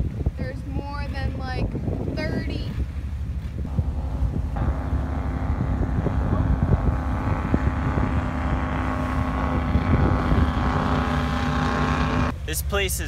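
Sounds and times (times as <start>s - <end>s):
wind buffeting microphone: 0.0s - 12.5s
motorboat engine running: 0.4s - 12.8s.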